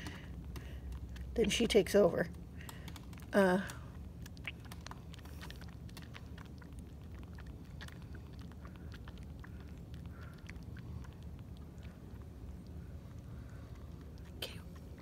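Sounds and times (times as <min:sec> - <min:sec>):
kitten suckling wet clicks: 0:00.0 - 0:15.0
low background hum: 0:00.0 - 0:15.0.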